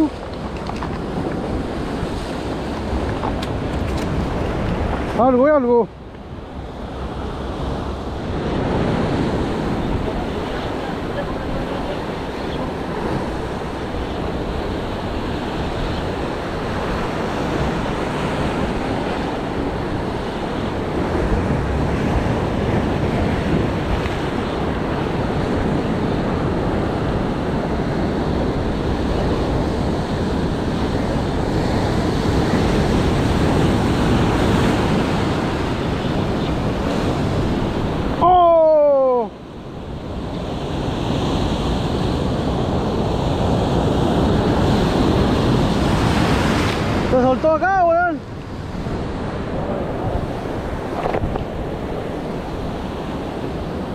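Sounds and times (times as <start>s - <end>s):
wind buffeting microphone: 0.0s - 38.3s, 39.0s - 53.9s.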